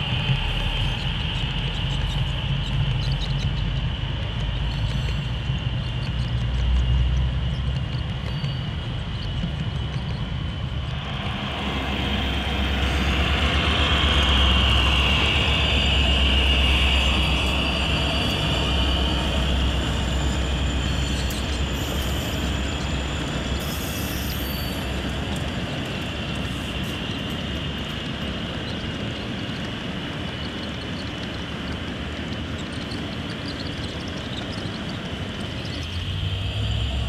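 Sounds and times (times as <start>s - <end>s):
model train rumbling and whining: 0.0s - 37.0s.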